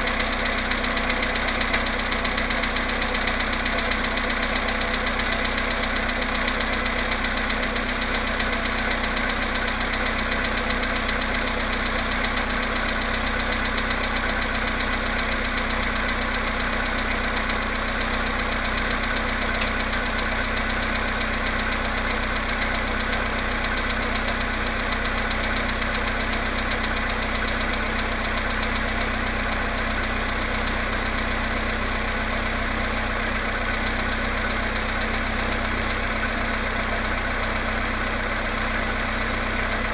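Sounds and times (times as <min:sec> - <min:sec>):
car engine idling: 0:00.0 - 0:39.9
rapid engine knock: 0:00.0 - 0:39.9.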